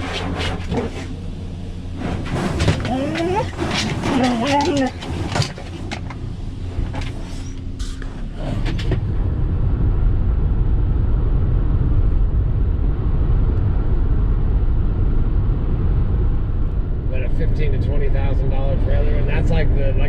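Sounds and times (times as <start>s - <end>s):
vehicle driving rumble from cab: 0.0s - 20.0s.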